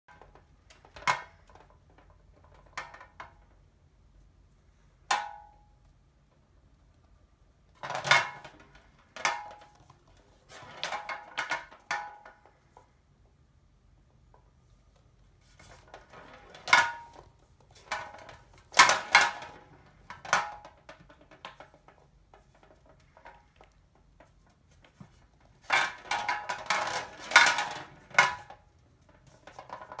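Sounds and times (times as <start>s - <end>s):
balls rolling and clattering: 0.1s - 30.0s.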